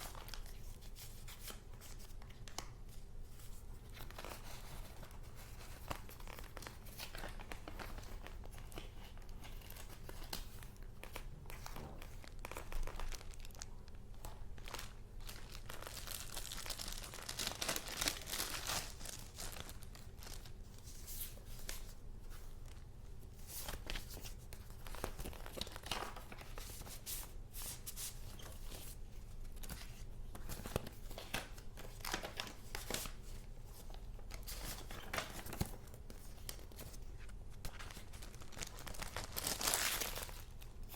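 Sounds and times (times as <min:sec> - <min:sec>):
paper rustling and crinkling: 0:00.0 - 0:40.9.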